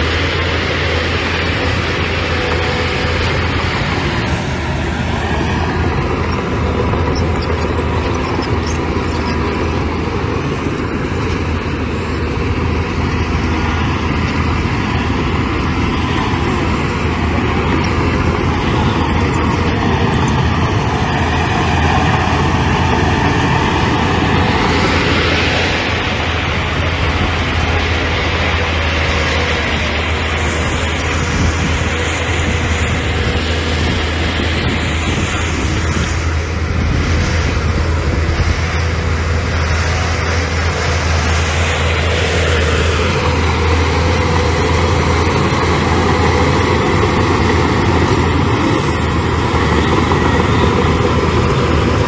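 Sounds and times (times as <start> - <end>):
bulldozer diesel engine drone: 0.0 - 52.0.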